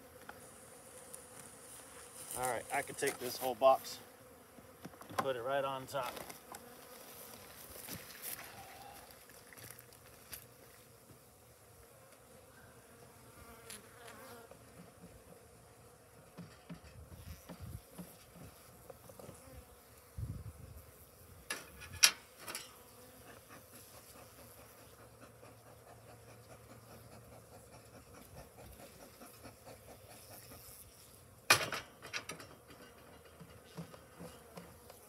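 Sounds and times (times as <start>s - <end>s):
honeybees buzzing: 0.0s - 21.5s, 22.2s - 31.5s.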